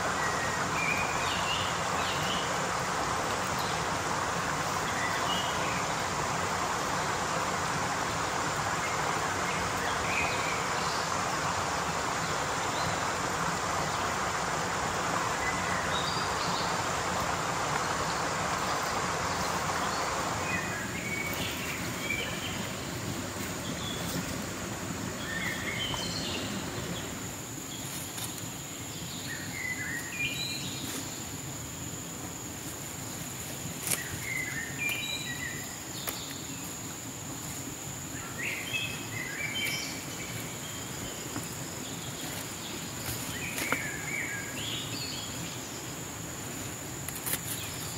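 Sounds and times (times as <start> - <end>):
birds chirping: 0.0 - 46.8
high insect whine: 0.0 - 47.9
steady rushing noise: 0.0 - 47.9.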